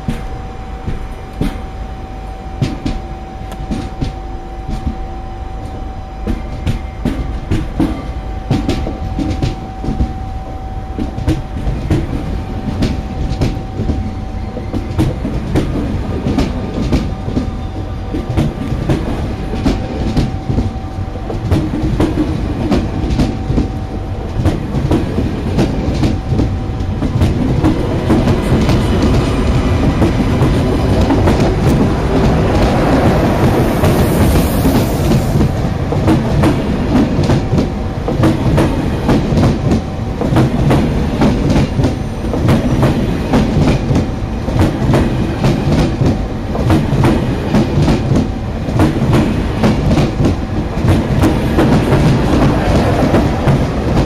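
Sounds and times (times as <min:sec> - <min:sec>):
train rumble: 0:00.0 - 0:54.0
train whine: 0:00.0 - 0:54.0.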